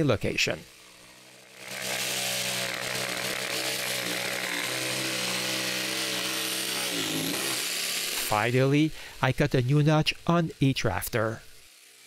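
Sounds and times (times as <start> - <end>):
power saw cutting wood: 0.0 - 12.0.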